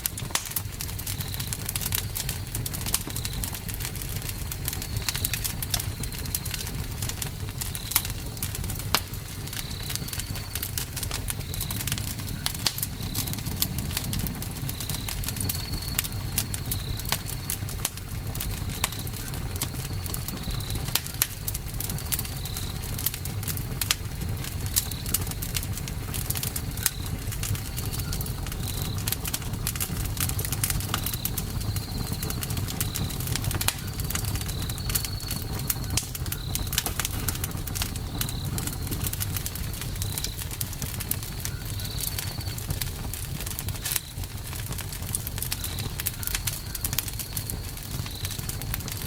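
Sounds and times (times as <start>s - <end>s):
low rumble of flames: 0.0s - 49.0s
wood crackling and popping: 0.0s - 49.0s.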